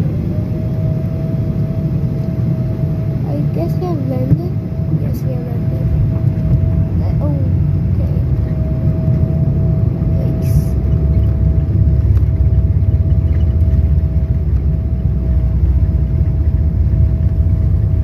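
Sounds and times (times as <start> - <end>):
airliner cabin rumble: 0.0 - 18.0
steady whine: 0.0 - 18.0.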